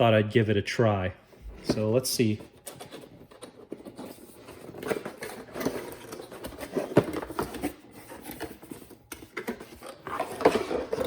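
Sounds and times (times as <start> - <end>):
cardboard packaging rustling: 1.5 - 11.0.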